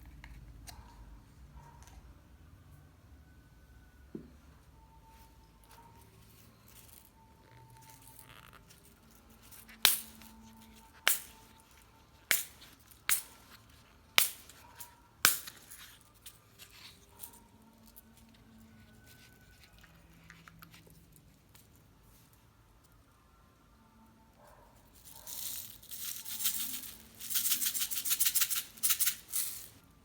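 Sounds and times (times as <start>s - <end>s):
faint background music: 0.0s - 30.0s.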